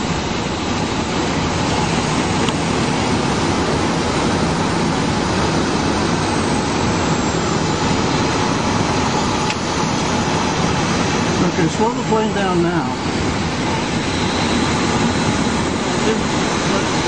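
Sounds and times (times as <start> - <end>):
light plane engine and propeller: 0.0 - 17.0.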